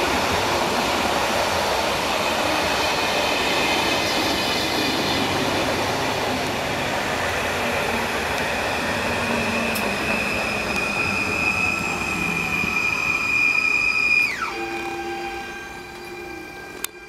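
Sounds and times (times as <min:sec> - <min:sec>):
high steady squeal: 0:00.0 - 0:17.0
train wheels rumbling: 0:00.0 - 0:17.0.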